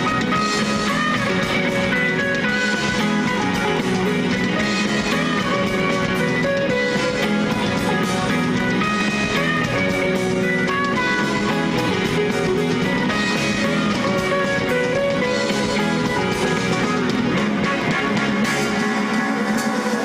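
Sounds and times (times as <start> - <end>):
guitar melody of short notes: 0.0 - 19.2
drum kit: 0.0 - 20.0
electric guitars: 0.0 - 20.0.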